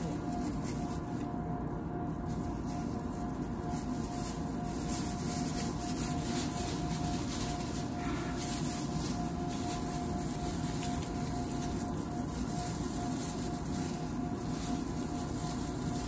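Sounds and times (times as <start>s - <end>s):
plastic gloves crinkling: 0.0s - 16.0s
steady background hum: 0.0s - 16.0s.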